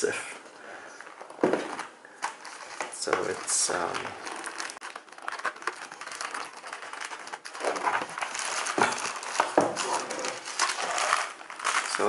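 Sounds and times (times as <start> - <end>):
tissue paper crinkling: 1.7 - 12.0.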